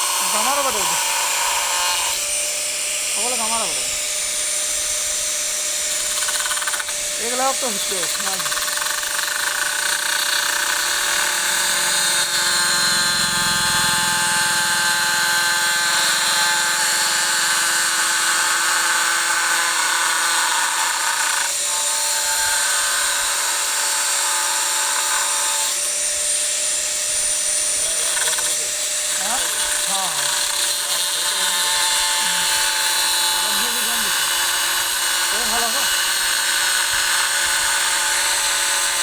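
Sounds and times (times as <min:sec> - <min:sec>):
electric power tool whining: 0:00.0 - 0:39.0.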